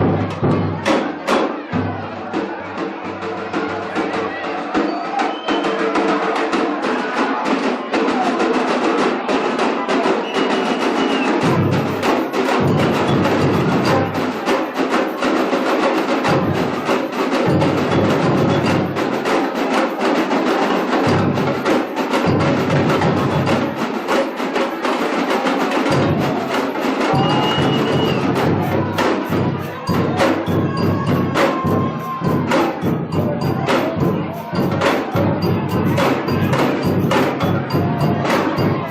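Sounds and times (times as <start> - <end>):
snare and small drums: 0.0 - 38.9.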